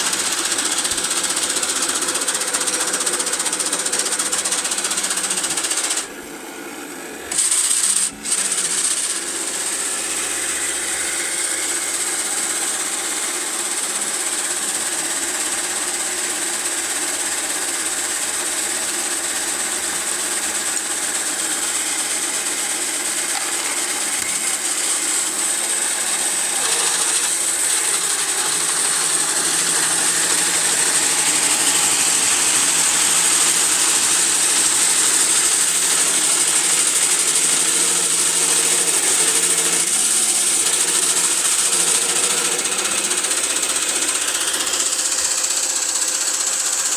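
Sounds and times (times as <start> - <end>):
toy mechanism whirring: 0.0 - 6.2, 7.2 - 46.9.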